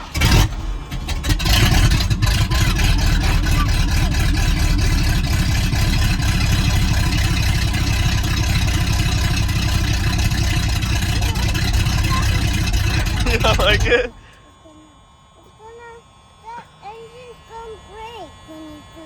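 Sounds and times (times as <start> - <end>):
engine idling with loud exhaust: 0.0 - 19.0.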